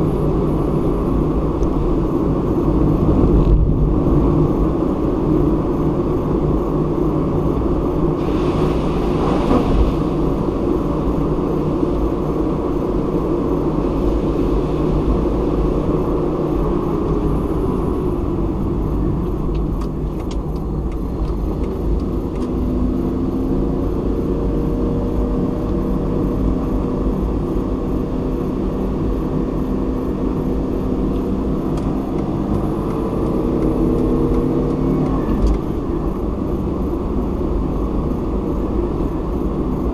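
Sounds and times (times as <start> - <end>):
car engine hum: 0.0 - 39.9.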